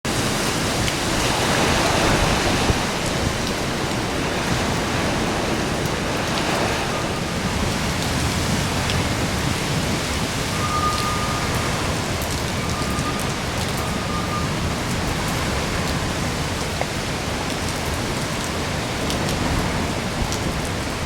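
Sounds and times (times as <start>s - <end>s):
wind and rain hiss: 0.1s - 21.0s
wind buffeting microphone: 0.1s - 21.0s.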